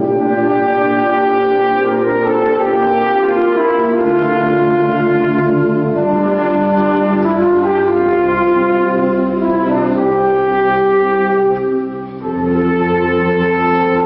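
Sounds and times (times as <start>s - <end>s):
wind band playing held chords: 0.0s - 14.0s.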